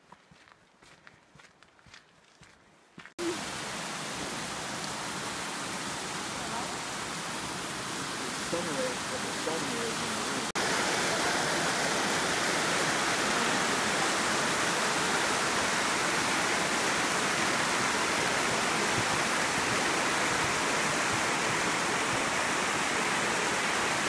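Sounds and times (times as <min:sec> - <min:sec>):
creek rushing over rocks: 0:03.2 - 0:24.0.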